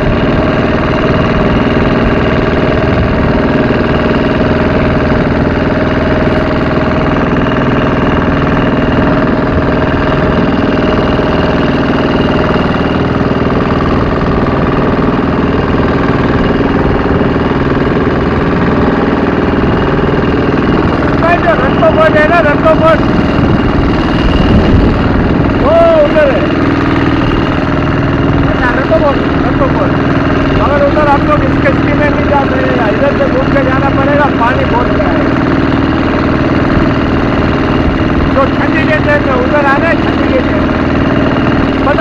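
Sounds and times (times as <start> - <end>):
boat engine drone: 0.0 - 42.0.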